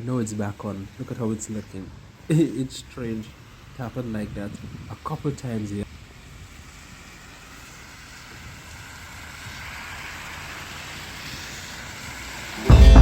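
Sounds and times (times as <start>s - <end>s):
traffic rushing hiss: 0.0s - 13.0s.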